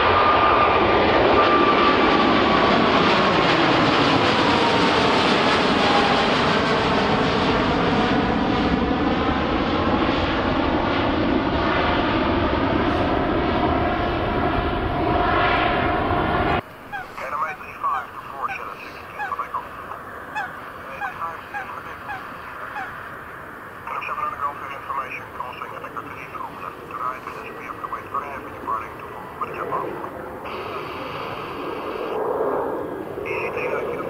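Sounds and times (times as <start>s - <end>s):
jet airliner passing overhead: 0.0s - 34.0s.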